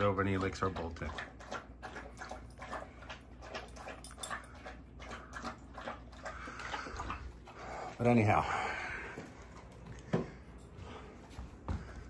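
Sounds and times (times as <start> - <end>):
dog licking food bowl: 0.0 - 12.0.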